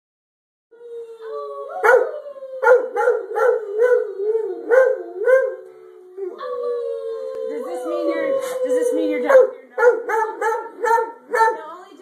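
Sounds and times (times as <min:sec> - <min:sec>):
dog howling: 0:00.8 - 0:11.5.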